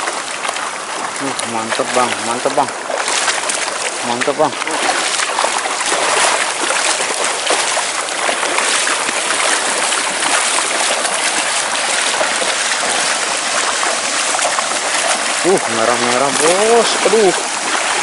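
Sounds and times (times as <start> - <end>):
net splashing through water: 0.0 - 18.0
river water rushing: 0.0 - 18.0.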